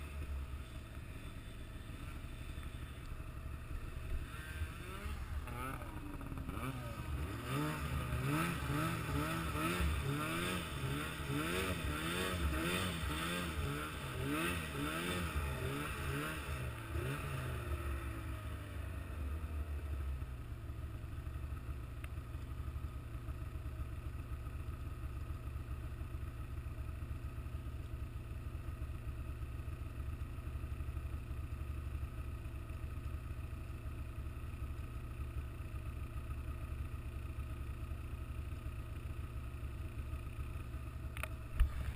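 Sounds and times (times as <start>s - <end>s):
vehicle engine revving and idling: 0.0s - 41.9s.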